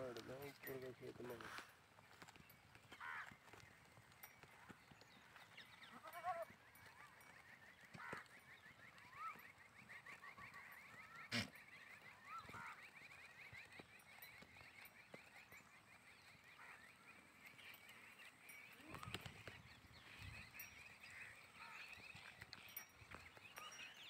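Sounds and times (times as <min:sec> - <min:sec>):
faint bird chirps: 0:04.2 - 0:24.0.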